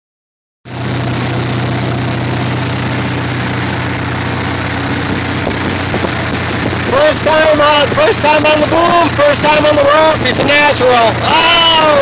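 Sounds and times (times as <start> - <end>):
boat engine running: 0.7 - 12.0
water rushing past hull: 0.7 - 12.0
wind: 0.7 - 12.0.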